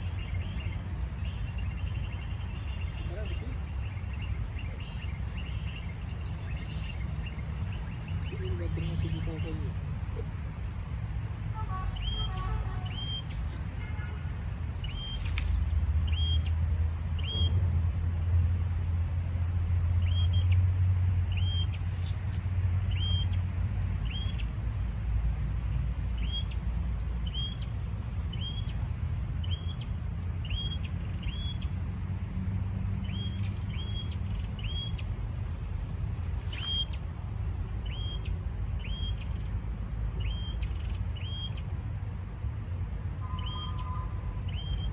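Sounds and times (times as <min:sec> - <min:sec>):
small bird call notes: 0:00.0 - 0:17.7, 0:19.8 - 0:24.6, 0:26.1 - 0:31.8, 0:33.0 - 0:35.3, 0:35.9 - 0:44.9.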